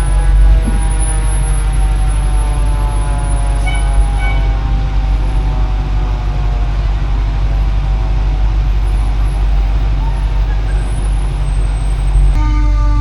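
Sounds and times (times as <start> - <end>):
pickup truck engine drone: 0.0 - 13.0
road and wind rumble: 0.0 - 13.0.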